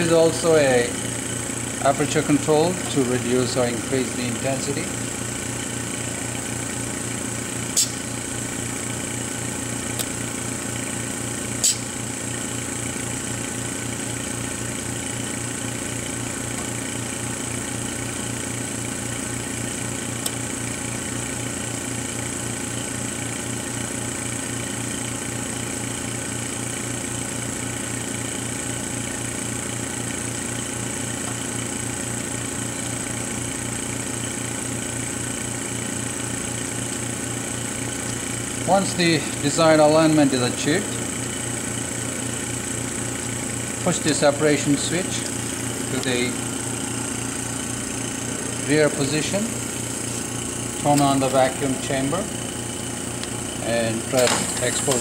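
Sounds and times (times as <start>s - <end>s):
mechanical hum with high whine: 0.0s - 55.0s.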